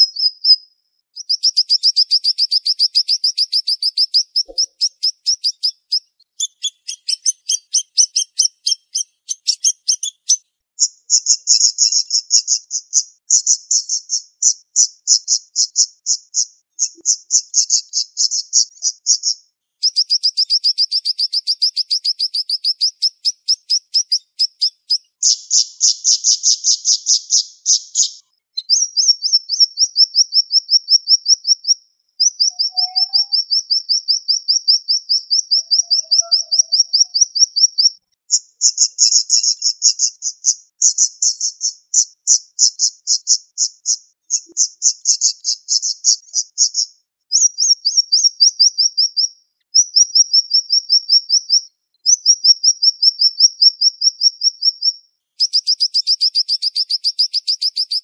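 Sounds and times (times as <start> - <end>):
bird singing rapid trills: 0.0 - 58.0.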